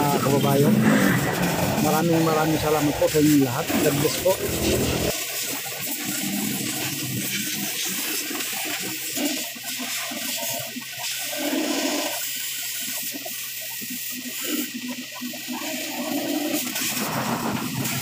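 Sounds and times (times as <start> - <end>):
water rushing from a hose: 0.0 - 18.0.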